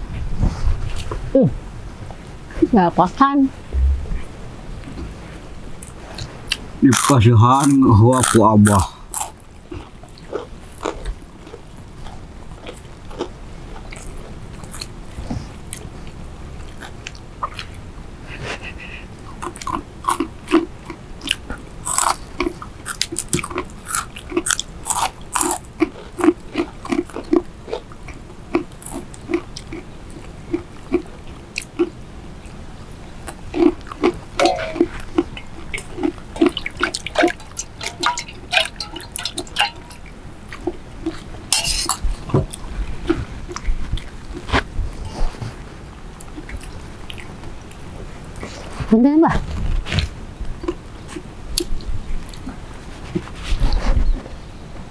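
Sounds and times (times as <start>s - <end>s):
people chewing and crunching: 5.0s - 48.9s, 49.5s - 53.8s.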